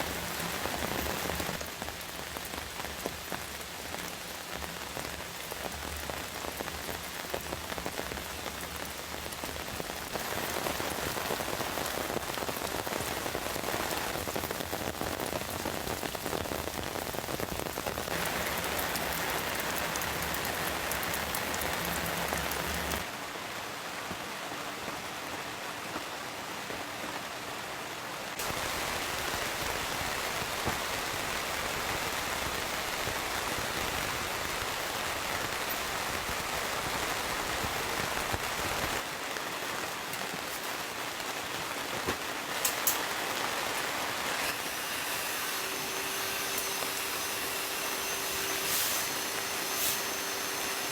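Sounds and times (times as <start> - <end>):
heavy rain falling: 0.0 - 44.6, 45.2 - 50.9.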